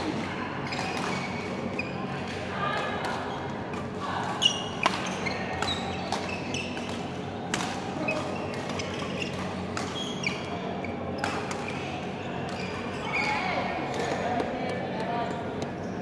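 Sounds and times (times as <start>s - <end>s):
play on neighbouring courts: 0.0s - 16.0s
court shoes squeaking: 0.1s - 2.4s, 3.1s - 14.2s.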